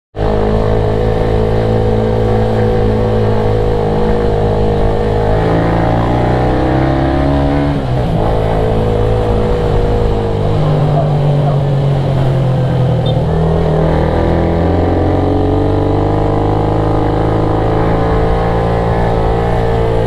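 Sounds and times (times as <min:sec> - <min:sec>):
motorcycle engine running: 0:00.2 - 0:20.0.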